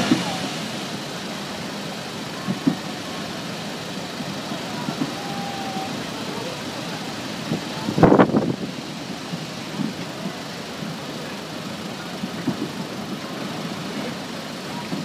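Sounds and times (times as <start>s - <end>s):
seawater pouring over quay: 0.0s - 15.0s.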